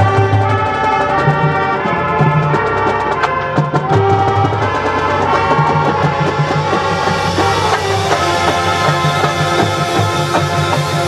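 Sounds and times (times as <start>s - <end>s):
marching band playing: 0.0s - 11.0s
percussion strikes: 0.0s - 11.0s.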